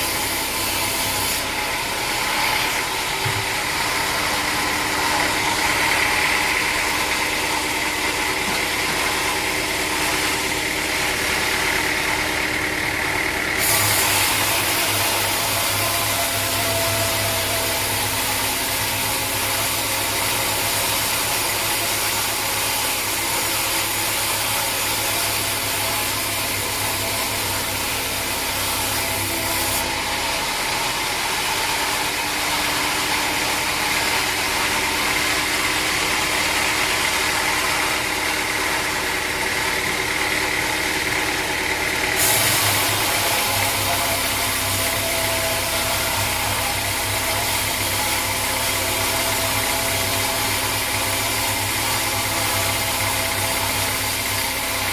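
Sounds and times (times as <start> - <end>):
sawmill machinery engine running: 0.0 - 54.9.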